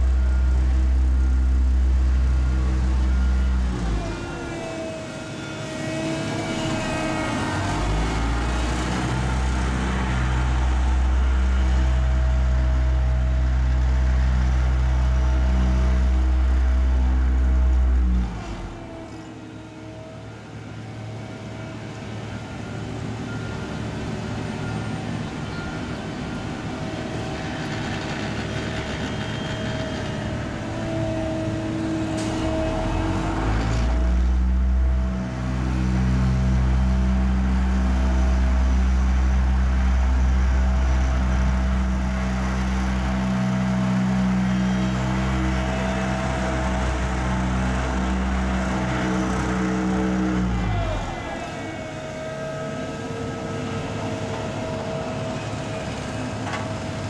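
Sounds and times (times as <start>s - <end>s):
deep steady drone: 0.0s - 57.0s
diesel engines of road machines: 0.0s - 57.0s.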